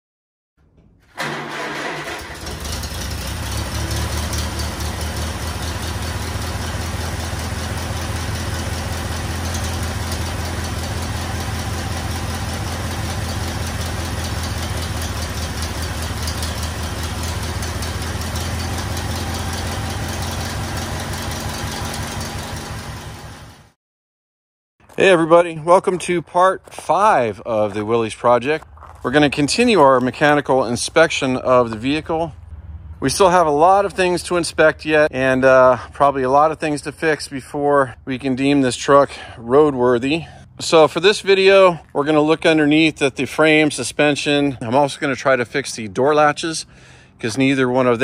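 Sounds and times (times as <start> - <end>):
tractor engine idling: 0.6 - 23.8, 24.9 - 48.0.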